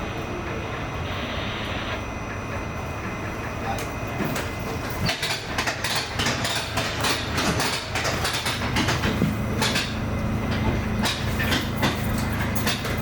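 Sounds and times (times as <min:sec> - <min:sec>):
train rumble: 0:00.0 - 0:13.0
subway wheels clacking over rail joints: 0:02.2 - 0:13.0.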